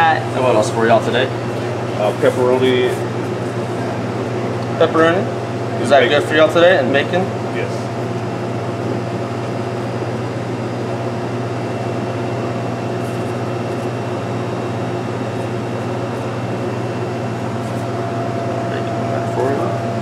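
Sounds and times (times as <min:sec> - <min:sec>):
kitchen equipment hum: 0:00.0 - 0:20.0.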